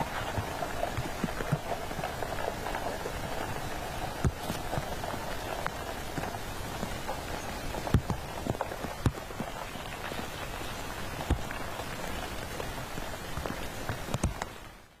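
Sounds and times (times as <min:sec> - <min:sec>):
raindrops ticking on a surface: 0:00.0 - 0:15.0
steady rain: 0:00.0 - 0:15.0.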